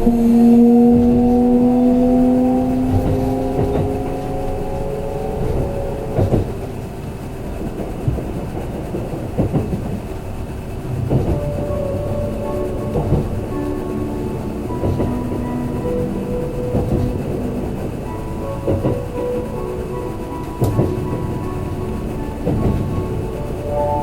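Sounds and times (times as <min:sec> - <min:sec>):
train motor whine: 0:00.0 - 0:24.0
train running rumble: 0:00.0 - 0:24.0.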